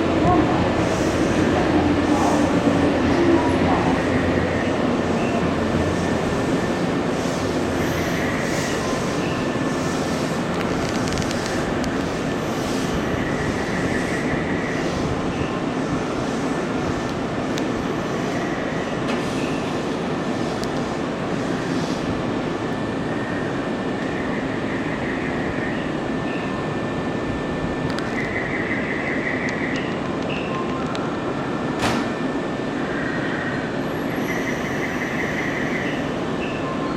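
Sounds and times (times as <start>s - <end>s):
steel wheels rumbling on rails: 0.0s - 30.8s.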